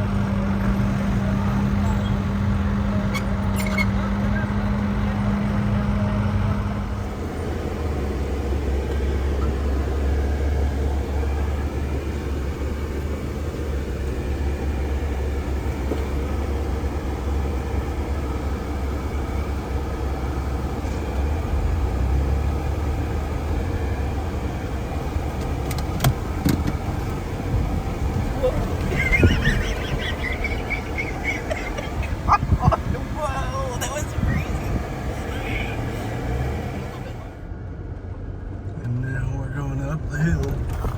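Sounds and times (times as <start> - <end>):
vehicle engine rumbling: 0.0 - 40.9.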